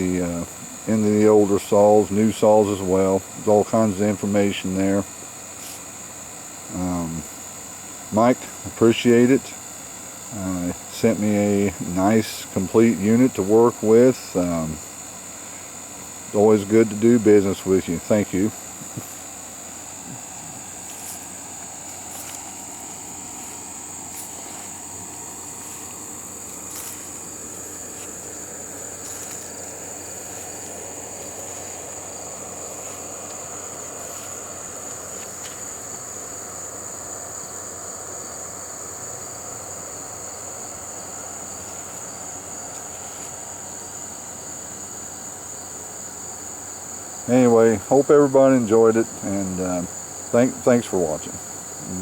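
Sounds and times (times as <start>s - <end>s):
insects chirring: 0.0s - 52.0s.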